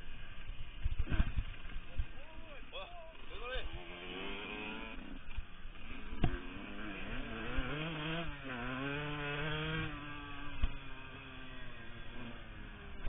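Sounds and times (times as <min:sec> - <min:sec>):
motocross engine revving: 0:00.9 - 0:13.0.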